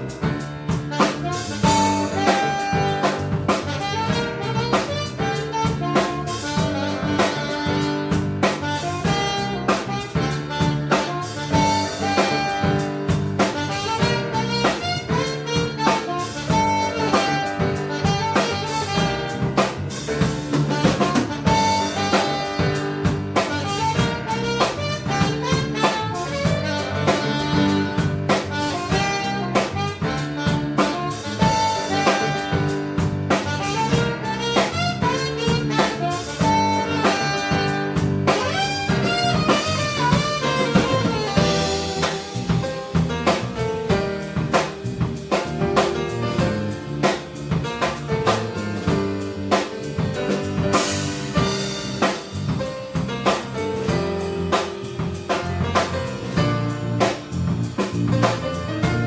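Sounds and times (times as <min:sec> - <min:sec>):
congas: 0:00.0 - 0:59.0
drum kit: 0:00.0 - 0:59.0
electric bass: 0:00.0 - 0:59.0
grand piano: 0:00.0 - 0:59.0
saxophone: 0:00.0 - 0:59.0.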